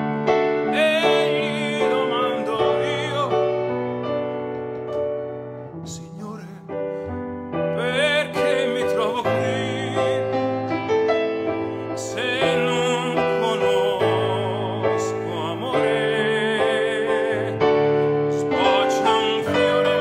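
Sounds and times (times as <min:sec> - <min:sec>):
piano chords: 0:00.0 - 0:20.0
man singing with vibrato: 0:00.5 - 0:03.8, 0:05.8 - 0:07.0, 0:07.6 - 0:10.8, 0:11.6 - 0:20.0.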